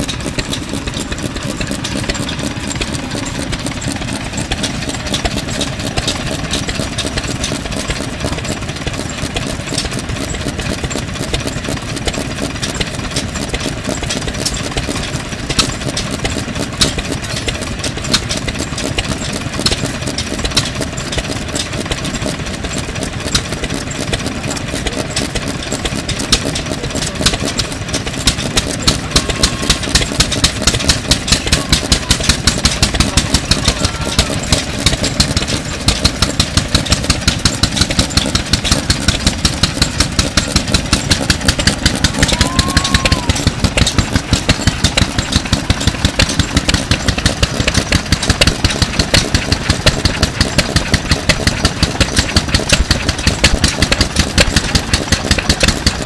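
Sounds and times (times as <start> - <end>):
stationary diesel engine running: 0.0 - 56.0.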